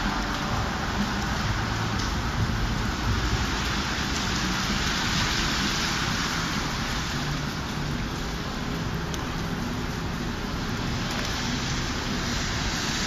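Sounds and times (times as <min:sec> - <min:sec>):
traffic rumble: 0:00.0 - 0:13.0
wet snow falling on street: 0:00.0 - 0:13.0.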